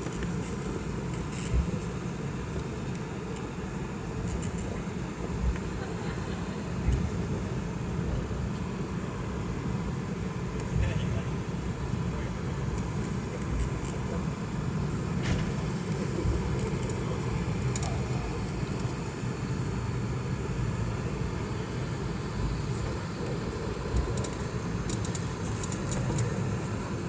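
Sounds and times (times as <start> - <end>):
jet engine rumble: 0.0 - 27.0.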